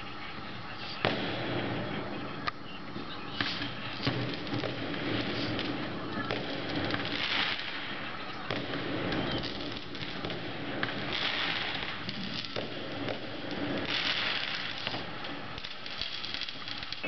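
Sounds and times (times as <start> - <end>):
fireworks crackling and popping: 0.0 - 17.0
sharp firework bangs: 1.0 - 2.0, 3.3 - 17.0.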